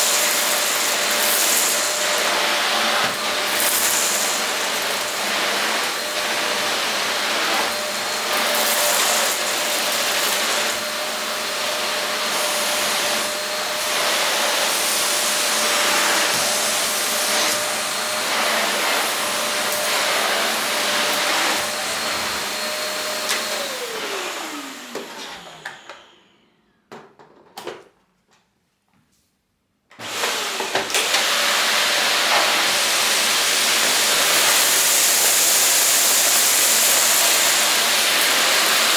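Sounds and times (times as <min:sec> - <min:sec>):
vacuum cleaner running: 0:00.0 - 0:27.0, 0:29.9 - 0:38.9.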